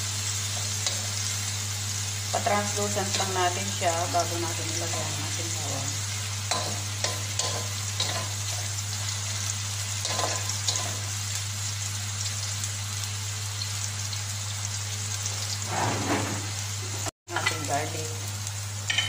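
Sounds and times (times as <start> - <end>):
onion sizzling in oil: 0.0 - 19.0.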